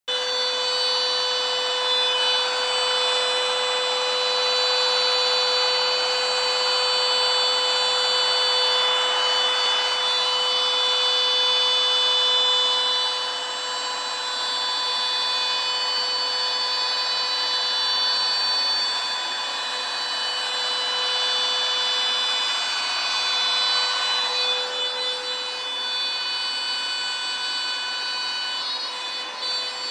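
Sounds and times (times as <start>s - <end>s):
cnc spindle high-pitched whine: 0.1s - 29.9s
router bit rasping material: 0.1s - 29.9s.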